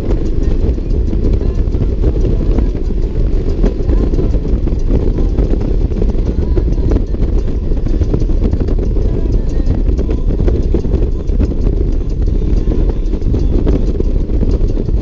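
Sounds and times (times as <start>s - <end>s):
motorcycle engine and wind rumble: 0.0s - 15.0s.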